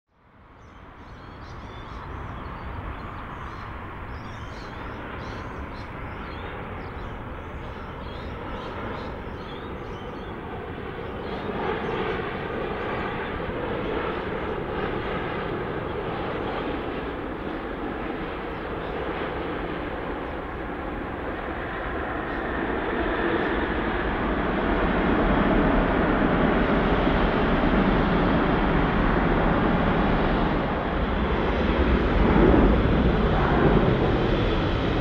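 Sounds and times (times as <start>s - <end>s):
jet engines rushing: 0.3s - 35.0s.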